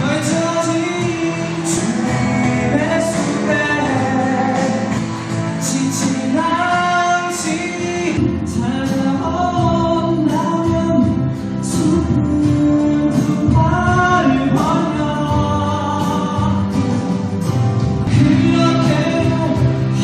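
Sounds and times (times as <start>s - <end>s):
person singing: 0.0s - 17.0s, 18.1s - 20.0s
musical accompaniment: 0.0s - 20.0s.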